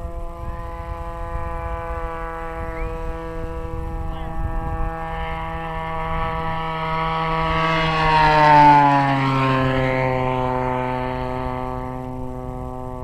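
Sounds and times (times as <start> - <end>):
model plane engine passing by: 0.0 - 13.0.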